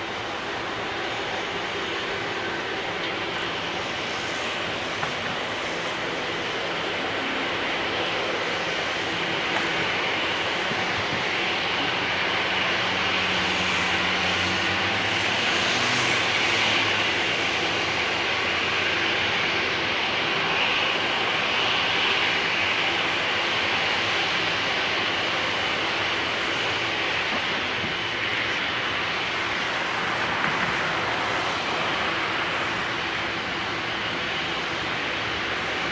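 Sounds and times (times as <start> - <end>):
jet engines running: 0.0 - 35.9.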